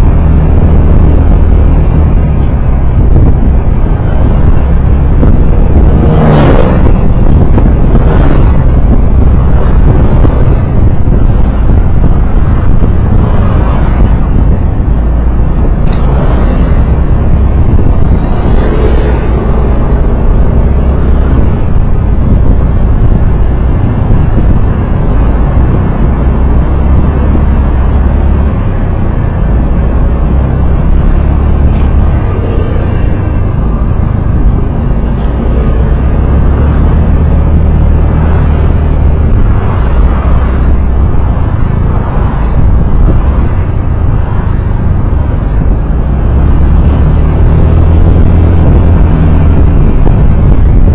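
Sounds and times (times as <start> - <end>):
vehicle road and wind noise: 0.0 - 50.9.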